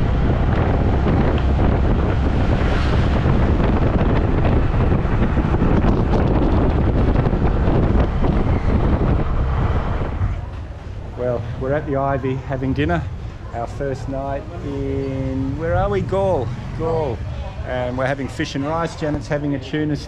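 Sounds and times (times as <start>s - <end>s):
wind buffeting microphone: 0.0s - 19.7s.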